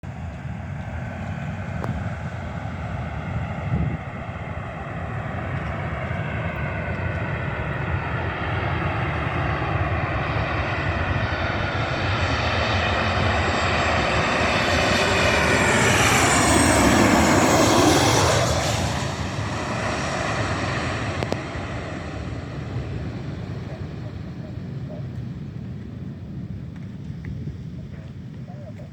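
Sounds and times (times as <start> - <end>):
jet airliner engine whine: 0.0 - 28.9.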